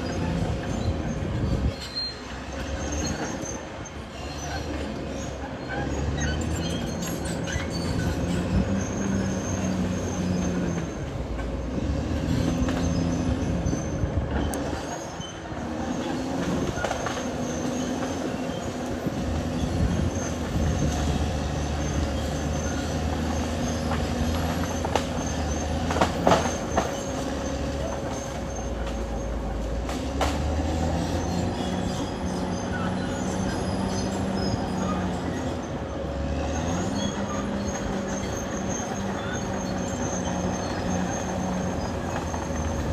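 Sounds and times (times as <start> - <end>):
bulldozer diesel engine: 0.0 - 42.9
steel tracks grinding and squealing: 0.0 - 42.9.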